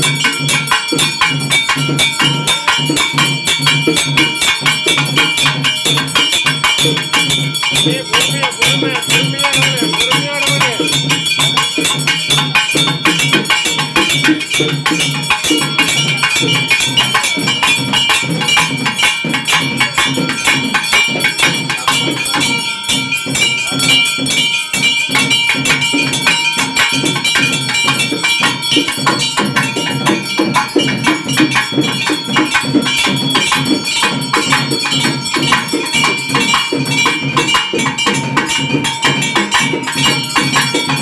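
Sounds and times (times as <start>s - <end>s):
fast dense drumming: 0.0s - 41.0s
steady ringing tone: 0.0s - 41.0s.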